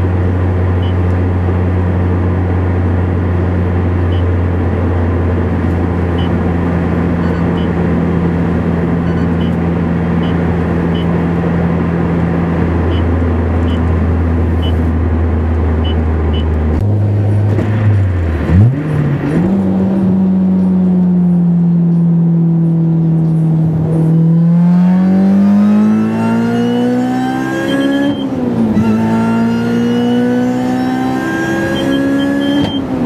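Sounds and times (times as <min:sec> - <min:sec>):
car engine revving while driving: 0:00.0 - 0:33.0.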